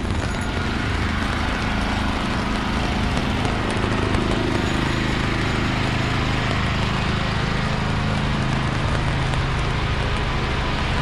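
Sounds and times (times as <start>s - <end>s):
steady rain: 0.0s - 11.0s
street traffic: 0.0s - 11.0s
vehicle engine humming: 0.0s - 11.0s.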